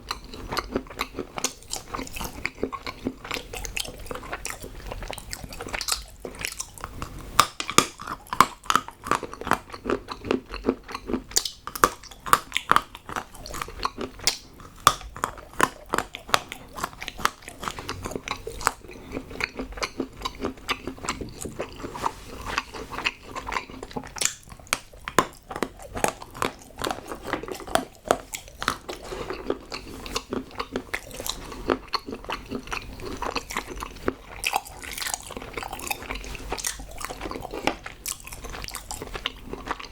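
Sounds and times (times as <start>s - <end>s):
chocolate crunching while chewing: 0.0s - 39.9s.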